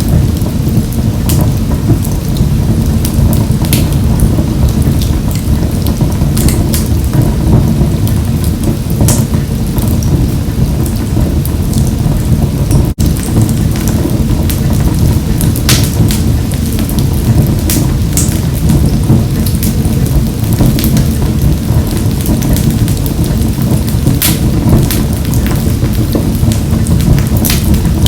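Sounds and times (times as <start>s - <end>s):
fire crackles and pops: 0.0s - 28.0s
wood fire roaring in stove: 0.0s - 28.0s.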